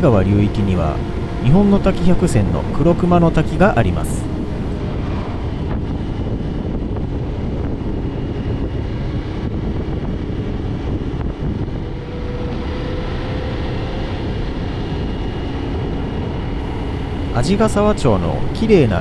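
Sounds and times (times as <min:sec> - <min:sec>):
car tyre road noise: 0:00.0 - 0:07.1, 0:10.7 - 0:19.0.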